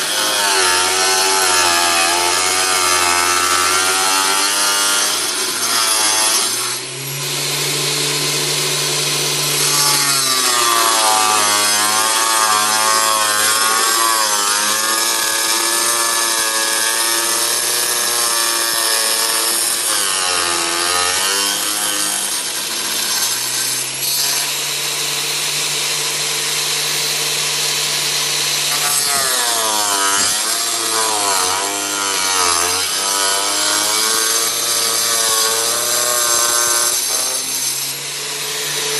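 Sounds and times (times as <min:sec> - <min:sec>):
power tool sawing through metal: 0:00.0 - 0:38.9.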